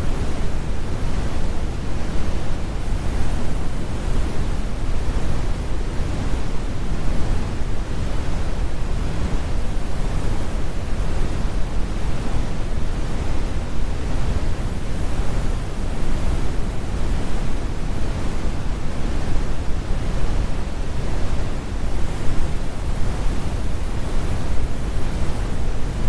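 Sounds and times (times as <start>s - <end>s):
brown noise: 0.0s - 26.0s.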